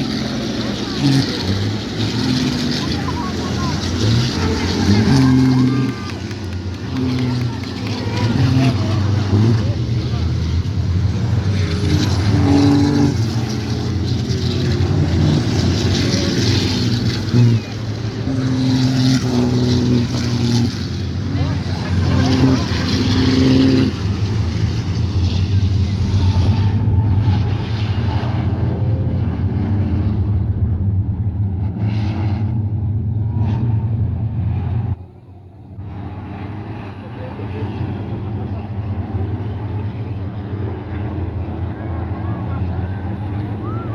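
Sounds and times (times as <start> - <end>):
truck diesel engines droning: 0.0 - 43.9.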